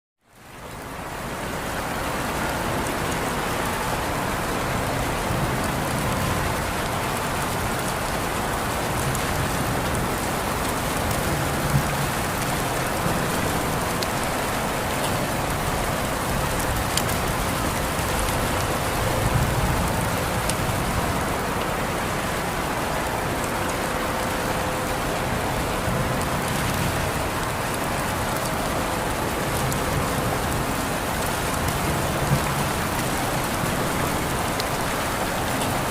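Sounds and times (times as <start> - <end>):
steady rain hiss: 0.3 - 35.9.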